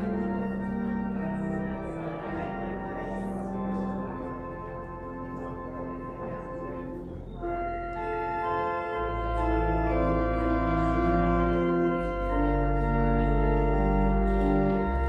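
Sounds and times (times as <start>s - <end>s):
deep organ pedal bass notes: 0.0s - 15.0s
organ playing sustained chords: 0.0s - 15.0s.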